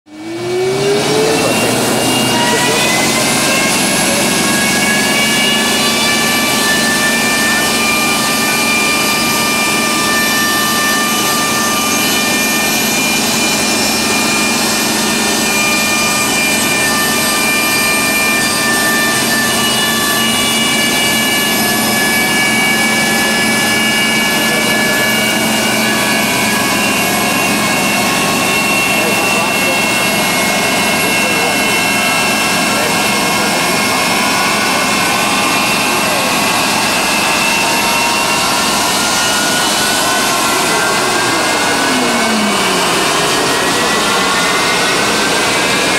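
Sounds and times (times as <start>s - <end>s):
jet engine idling: 0.1s - 45.9s.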